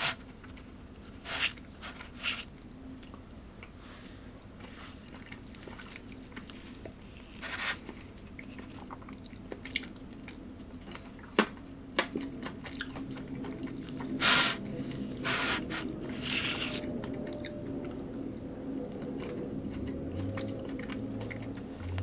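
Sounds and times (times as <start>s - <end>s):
person chewing food: 2.5s - 22.0s.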